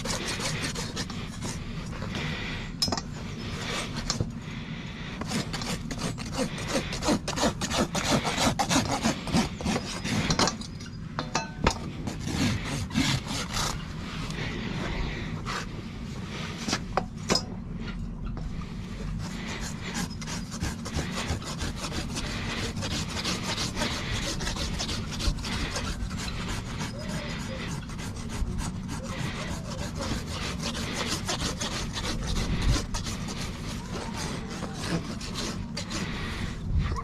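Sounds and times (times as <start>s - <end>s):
low steady hum: 0.0s - 37.0s
rasp filing a hoof: 0.0s - 37.0s.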